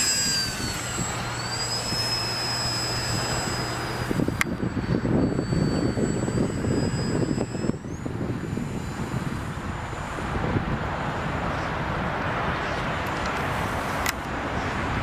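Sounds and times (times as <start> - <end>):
electric motor whining: 0.0 - 12.0, 12.8 - 14.3
wind buffeting microphone: 0.0 - 15.0.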